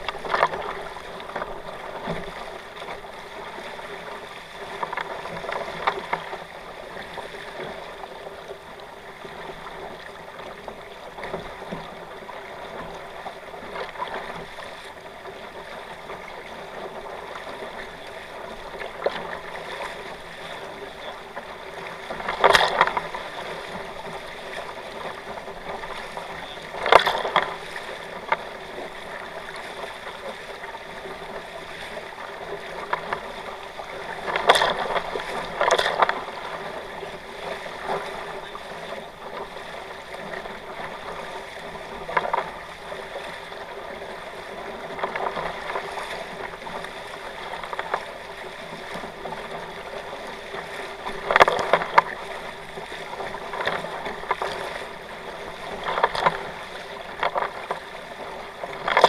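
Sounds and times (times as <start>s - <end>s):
water rushing along hulls: 0.0s - 59.0s
waves splashing against hulls: 0.0s - 59.0s.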